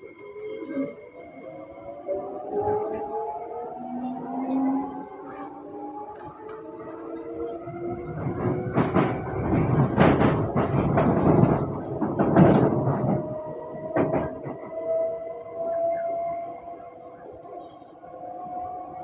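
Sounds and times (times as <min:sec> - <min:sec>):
wheel and rail rumble: 0:00.0 - 0:19.0.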